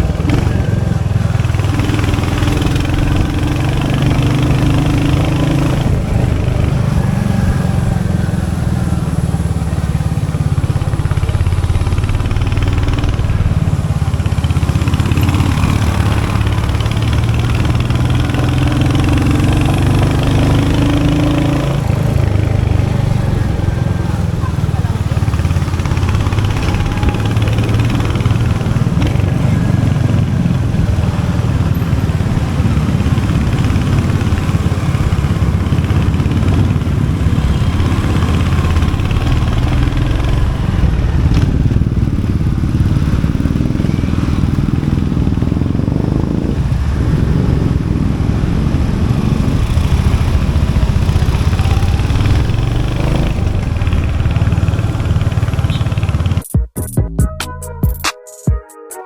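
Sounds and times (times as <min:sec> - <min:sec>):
motorcycle engine running: 0:00.0 - 0:56.6.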